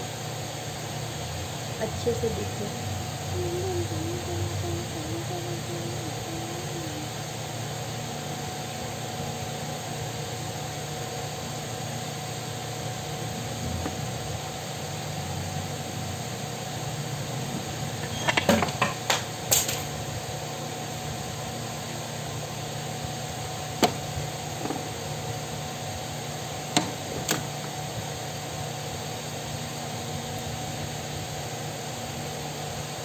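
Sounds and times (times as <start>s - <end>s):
electric fan humming: 0.0s - 33.0s.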